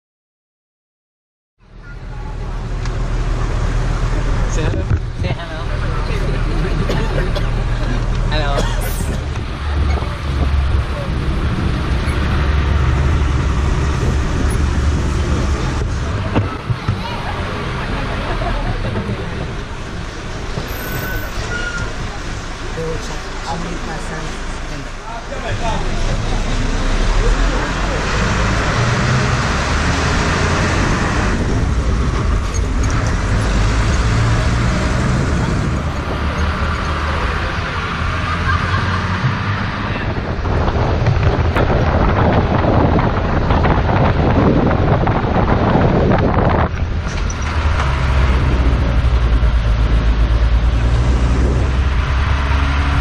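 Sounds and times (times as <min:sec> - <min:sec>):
truck engine and road noise: 0:01.6 - 0:53.0.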